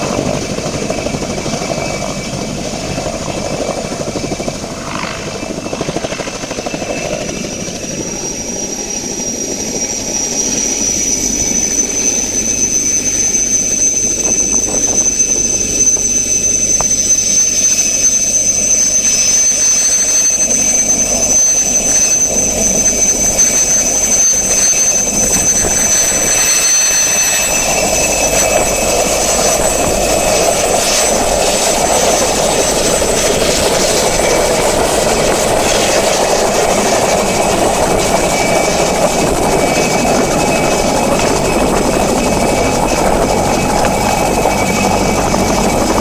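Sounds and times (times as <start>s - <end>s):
helicopter engine whistle: 0.0s - 46.0s
helicopter rotor noise: 0.0s - 46.0s.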